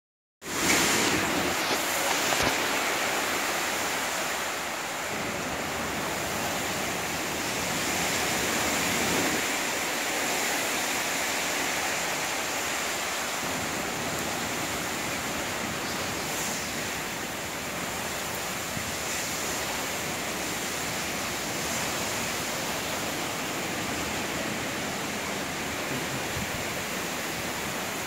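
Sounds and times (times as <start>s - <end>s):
heavy driven rain: 0.4s - 28.0s
hurricane wind: 0.4s - 28.0s.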